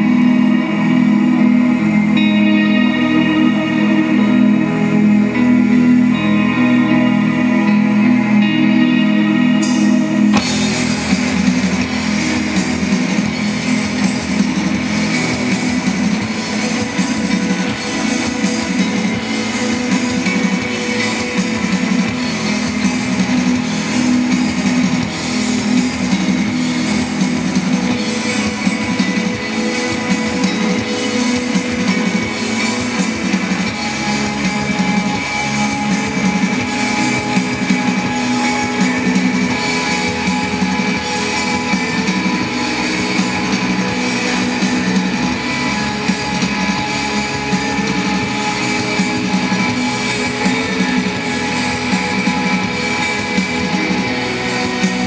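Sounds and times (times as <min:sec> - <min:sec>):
electric guitars: 0:00.0 - 0:55.0
drum kit: 0:09.5 - 0:55.0.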